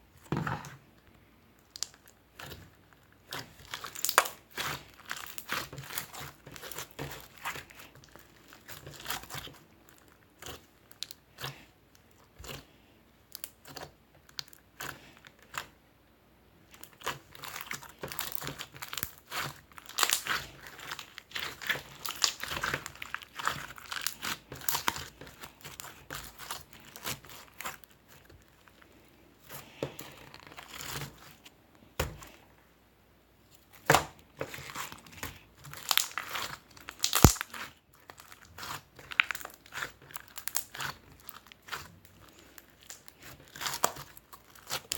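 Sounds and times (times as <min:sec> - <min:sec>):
crinkling and crackling: 0:00.2 - 0:15.7, 0:16.6 - 0:32.6, 0:33.4 - 0:44.9.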